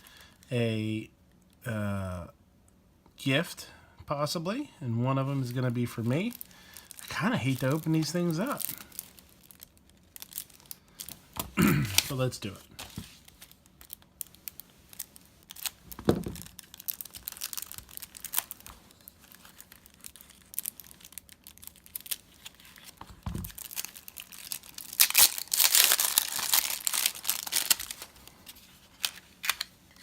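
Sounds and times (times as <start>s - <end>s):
cellophane tearing and crinkling: 5.5s - 30.0s.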